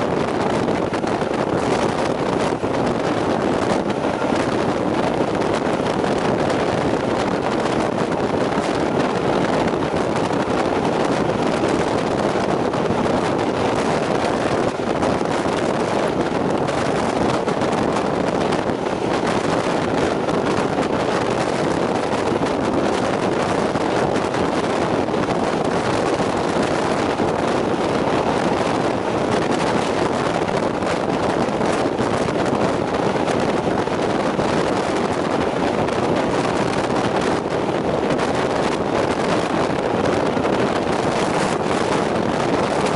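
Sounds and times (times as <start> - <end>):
train running noise: 0.0 - 42.9
wind rushing on microphone: 0.0 - 42.9.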